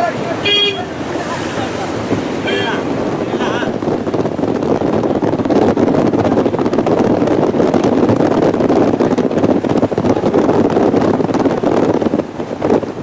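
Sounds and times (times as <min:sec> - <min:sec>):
train running noise: 0:00.0 - 0:11.6
wind buffeting microphone: 0:00.0 - 0:13.0.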